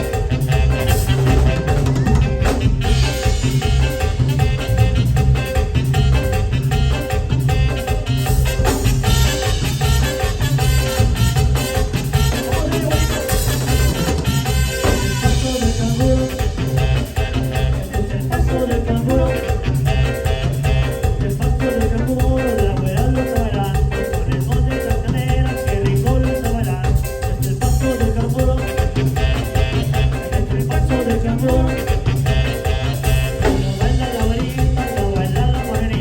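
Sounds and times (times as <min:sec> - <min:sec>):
latin band music through speakers: 0:00.0 - 0:36.0.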